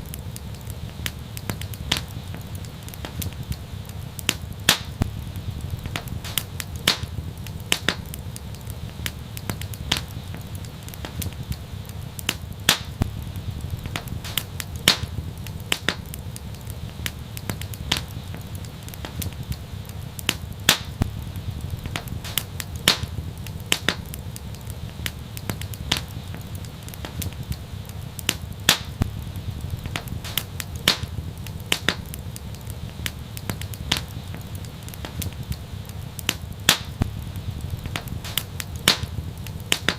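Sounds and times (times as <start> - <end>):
low steady rumble: 0.0 - 36.2, 36.9 - 39.9
wood fire crackling and popping: 0.0 - 39.9.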